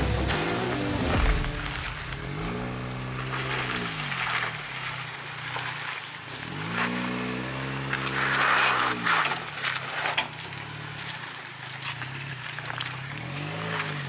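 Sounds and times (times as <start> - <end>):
pickup engine revving: 0.0 - 14.0.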